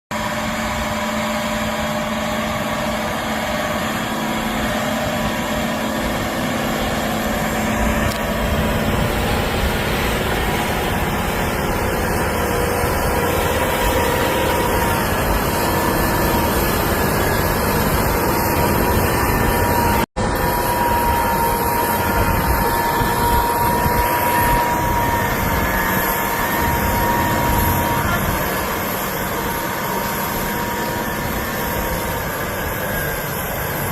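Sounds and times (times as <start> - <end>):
diesel engine running: 0.1 - 33.9
thin steady whine: 0.1 - 33.9.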